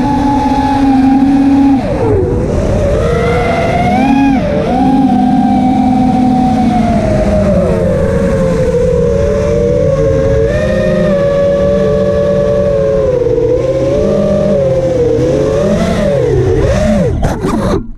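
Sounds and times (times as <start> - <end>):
drone motors whining: 0.0 - 17.9.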